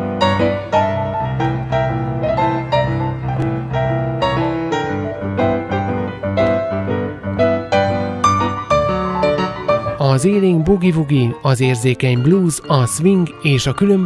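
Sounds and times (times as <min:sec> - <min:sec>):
boogie-woogie piano: 0:00.0 - 0:14.0.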